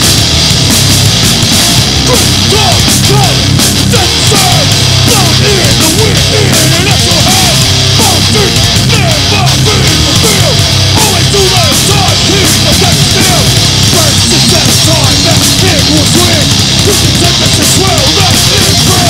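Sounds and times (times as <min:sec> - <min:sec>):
heavy metal band playing: 0:00.0 - 0:19.0.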